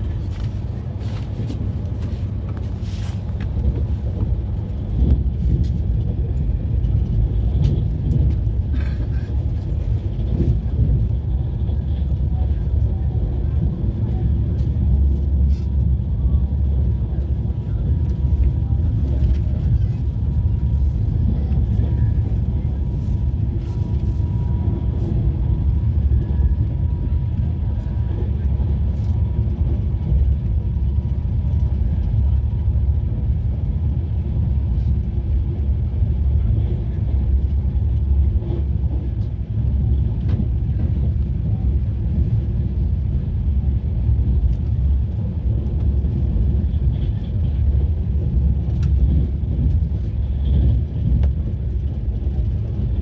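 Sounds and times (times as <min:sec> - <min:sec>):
passenger train rumbling: 0:00.0 - 0:53.0.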